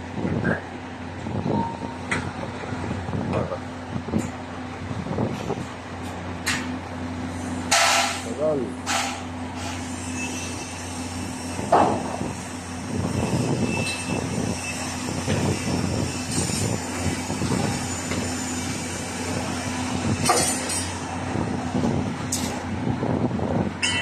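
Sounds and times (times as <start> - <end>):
heavy construction machinery droning: 0.0 - 24.0.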